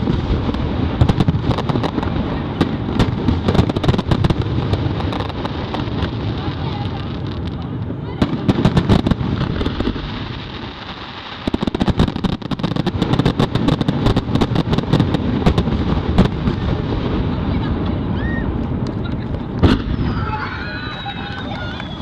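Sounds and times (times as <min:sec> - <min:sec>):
fireworks cracks and pops: 0:00.0 - 0:22.0
fireworks rumble: 0:00.0 - 0:22.0.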